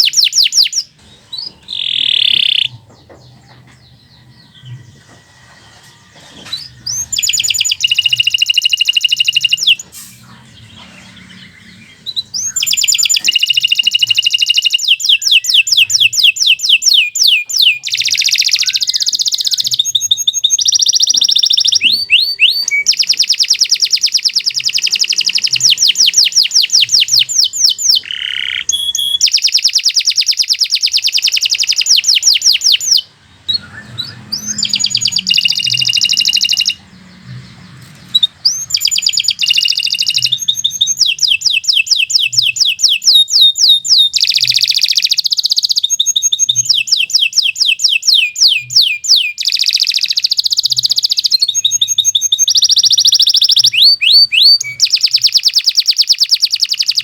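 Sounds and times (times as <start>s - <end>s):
canary singing high trills: 0.0s - 57.0s.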